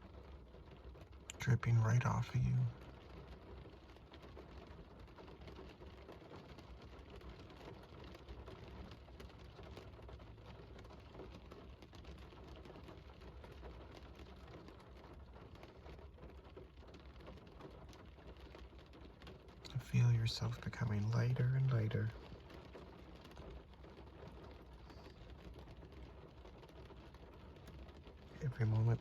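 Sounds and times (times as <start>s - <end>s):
rain drops ticking on a surface: 0.0s - 29.0s.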